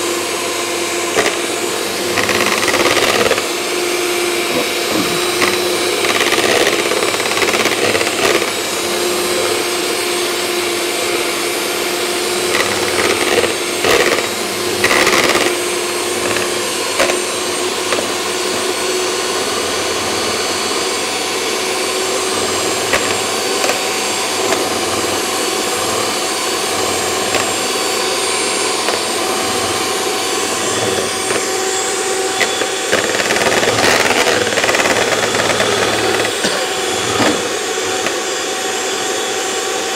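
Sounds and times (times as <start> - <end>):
electric hand mixer whisking: 0.0 - 39.9.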